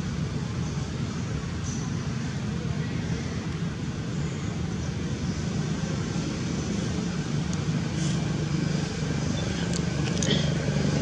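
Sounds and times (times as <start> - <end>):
constant hiss: 0.0 - 11.0
low mechanical drone: 0.0 - 11.0.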